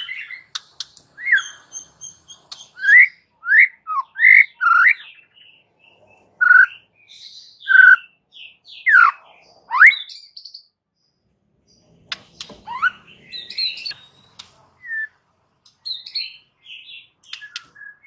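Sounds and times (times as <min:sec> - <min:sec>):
bird whistling song: 0:00.0 - 0:10.7, 0:12.1 - 0:15.2, 0:15.8 - 0:18.0.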